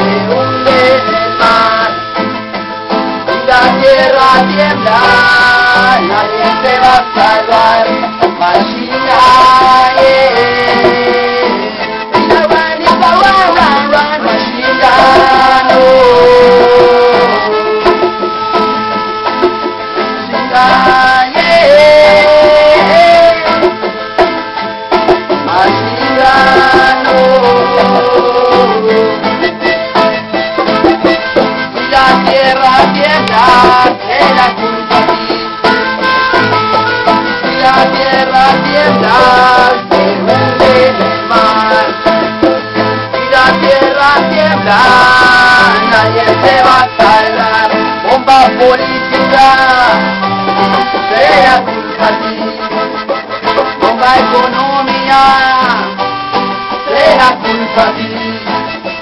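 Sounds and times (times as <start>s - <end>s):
acoustic guitar: 0.0s - 59.0s
melodica melody: 0.0s - 59.0s
strummed charango: 0.0s - 59.0s.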